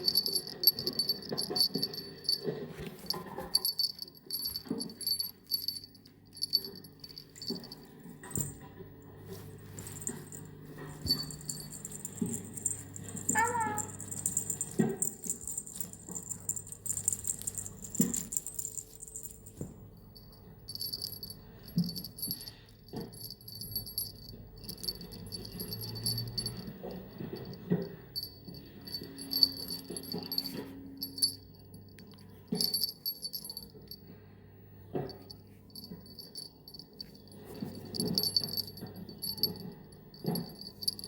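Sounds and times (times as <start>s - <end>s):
small bell jingling: 0.0s - 34.3s, 34.9s - 41.0s.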